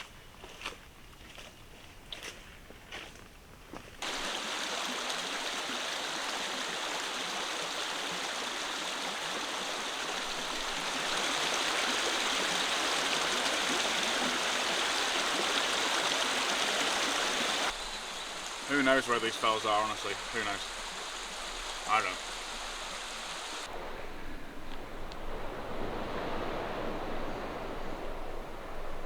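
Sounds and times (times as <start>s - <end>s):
flowing stream rushing: 4.0s - 29.0s.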